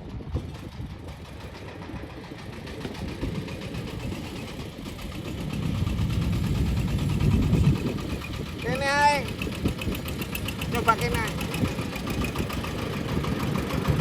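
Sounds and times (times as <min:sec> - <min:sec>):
diesel engine knocking: 0:00.0 - 0:14.0.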